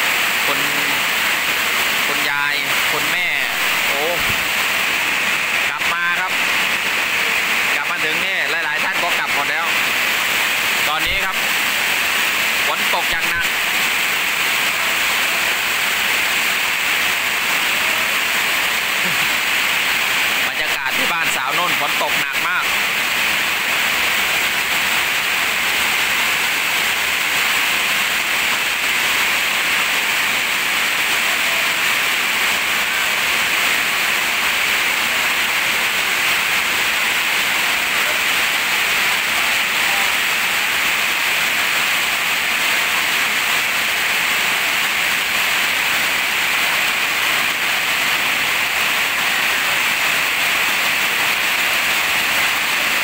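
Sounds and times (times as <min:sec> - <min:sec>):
heavy rain on metal roof: 0:00.0 - 0:53.0.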